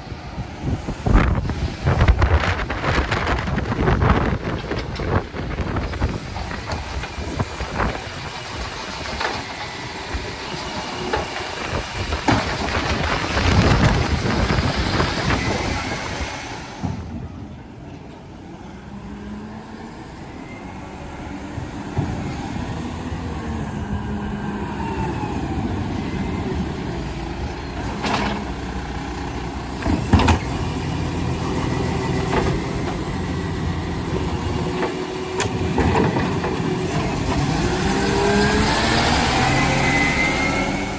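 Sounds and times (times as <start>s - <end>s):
wind buffeting microphone: 0.0s - 17.8s, 21.2s - 40.9s
garbage truck diesel engine: 0.0s - 40.9s.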